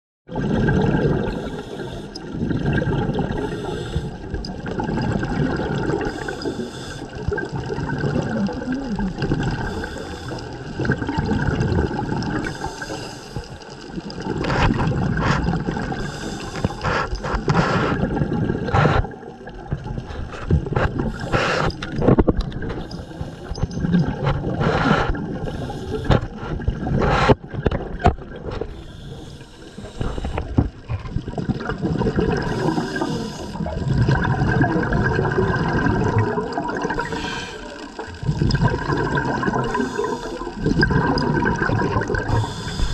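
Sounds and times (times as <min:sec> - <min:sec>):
underwater bubbles gurgling: 0:00.3 - 0:42.9.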